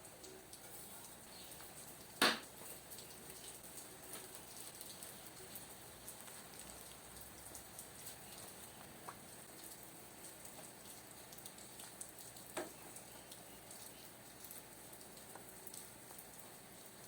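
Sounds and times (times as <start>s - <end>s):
light rain pattering: 0.0s - 17.0s
water dripping: 0.0s - 17.0s.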